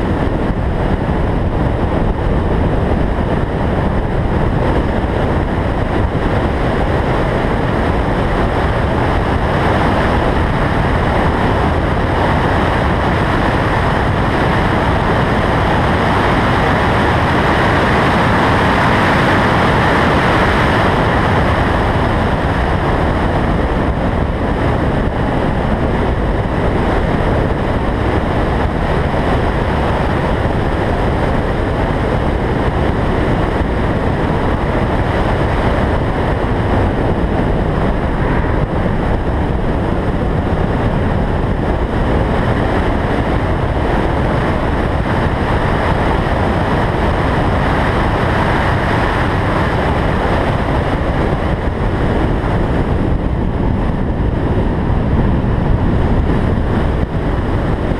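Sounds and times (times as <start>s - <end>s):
car running noise: 0.0s - 57.9s
wind roaring over microphone: 0.0s - 57.9s.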